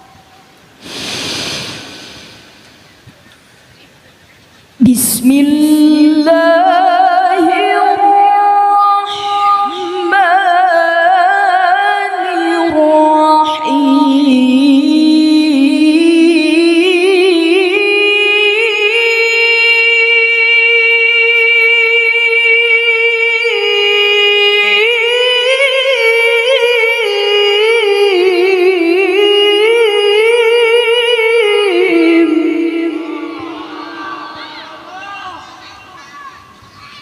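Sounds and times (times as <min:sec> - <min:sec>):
woman reciting melodically: 0:04.8 - 0:37.0.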